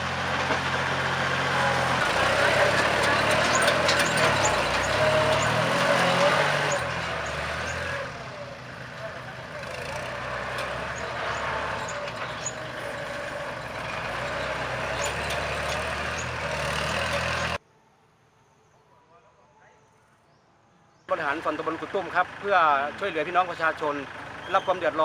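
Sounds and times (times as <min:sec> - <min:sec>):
heavy vehicle engine running: 0:00.0 - 0:17.6, 0:21.1 - 0:25.0.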